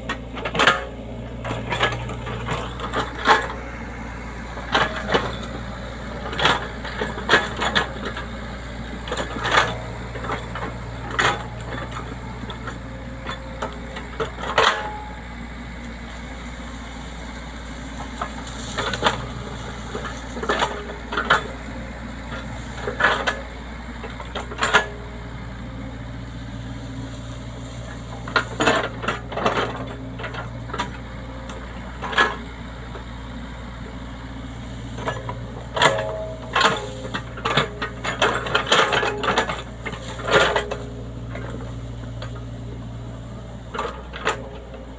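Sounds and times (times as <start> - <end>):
machine clanks and knocks: 0.0 - 15.4, 16.0 - 33.1, 33.8 - 44.9
excavator engine running: 0.0 - 44.9.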